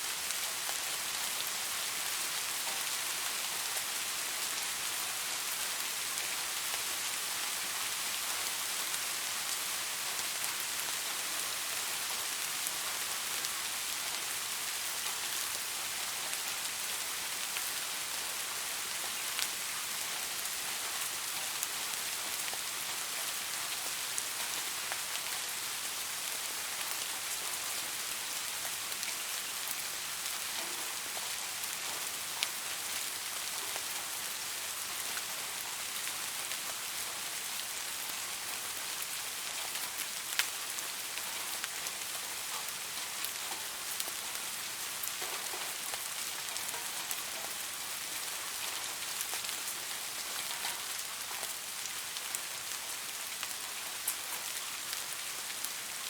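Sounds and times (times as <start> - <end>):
louder raindrops: 0.0 - 56.0
rain falling on leaves: 0.0 - 56.0.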